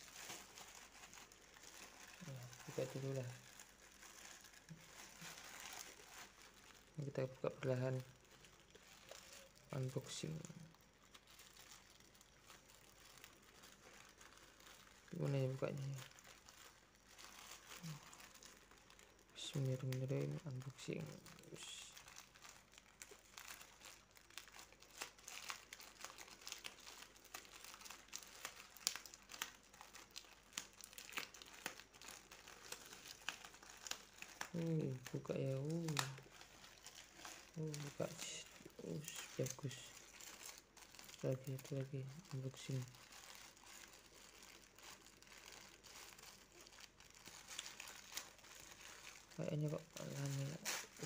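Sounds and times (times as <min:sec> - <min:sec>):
plastic mailer bag crinkling: 0:00.0 - 0:51.0.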